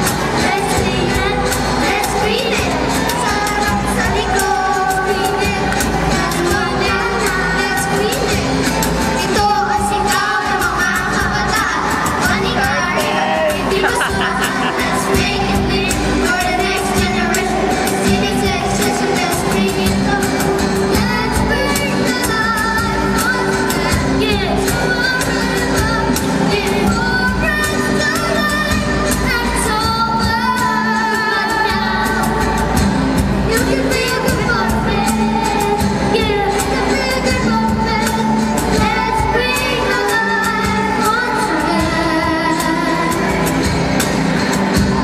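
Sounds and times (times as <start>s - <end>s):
cajon hand percussion: 0.0s - 45.0s
girl singing into microphone: 0.0s - 45.0s
strummed guitars: 0.0s - 45.0s.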